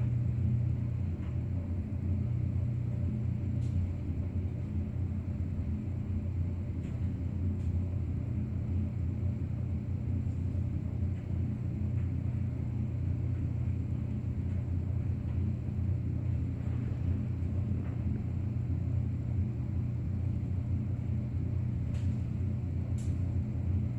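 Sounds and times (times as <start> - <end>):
constant hum: 0.0 - 23.9
low mechanical rumble: 0.0 - 23.9.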